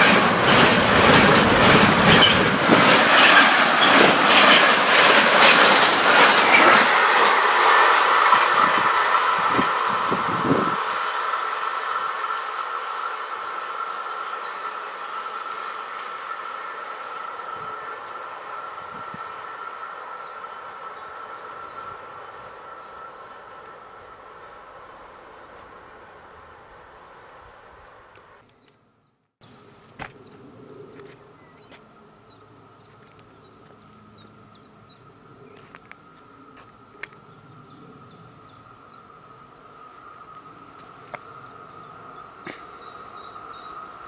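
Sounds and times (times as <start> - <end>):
electric locomotives rumbling: 0.0 - 28.4, 29.4 - 44.0
freight train rumble: 0.0 - 28.4, 29.4 - 44.0.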